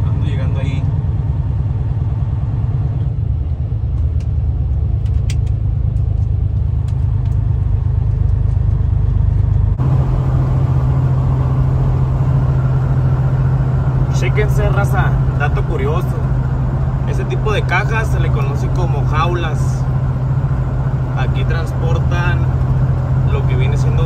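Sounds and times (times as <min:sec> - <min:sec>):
diesel engine droning: 0:00.0 - 0:24.0
road noise: 0:00.0 - 0:24.0.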